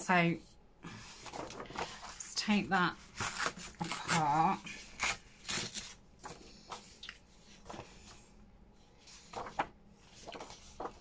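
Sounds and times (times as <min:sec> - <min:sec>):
book pages rustling: 0:00.9 - 0:11.0.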